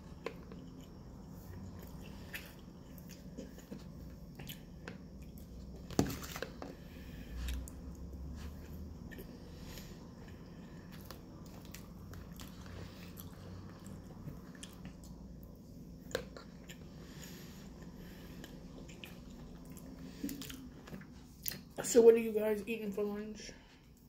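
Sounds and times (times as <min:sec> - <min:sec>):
person chewing food: 0:00.0 - 0:21.8
steady low hum: 0:00.0 - 0:24.0.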